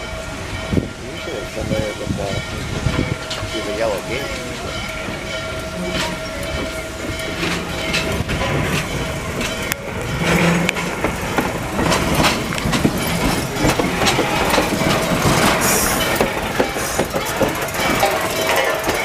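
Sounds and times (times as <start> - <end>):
train wheels clicking over rail joints: 0.0 - 19.0.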